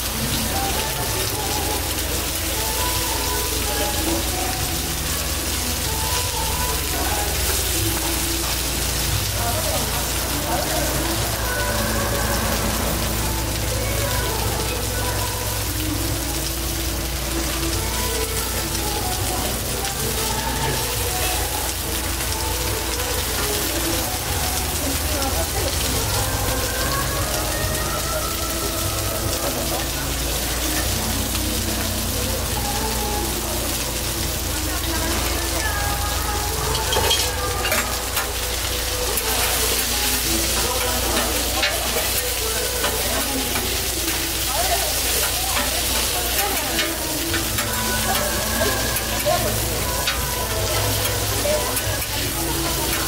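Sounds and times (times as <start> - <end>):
chicken sizzling on a griddle: 0.0 - 53.0.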